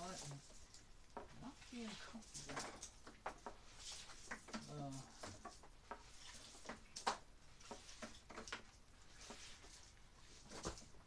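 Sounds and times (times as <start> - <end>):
electrical cord being coiled: 0.0 - 11.0.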